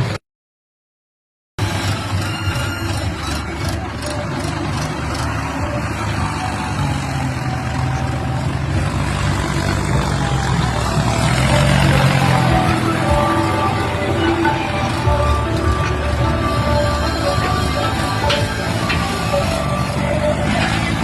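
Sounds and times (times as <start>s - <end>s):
tractor diesel engine running: 1.6s - 21.0s.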